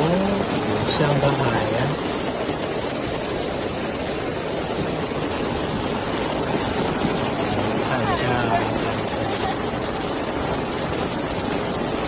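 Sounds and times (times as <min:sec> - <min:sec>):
heavy rain: 0:00.0 - 0:12.0
rushing floodwater: 0:00.0 - 0:12.0.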